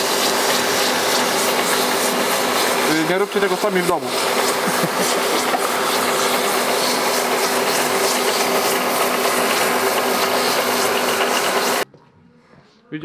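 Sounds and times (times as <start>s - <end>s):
hissing spray: 0.0s - 11.8s
machine hum: 0.0s - 11.8s.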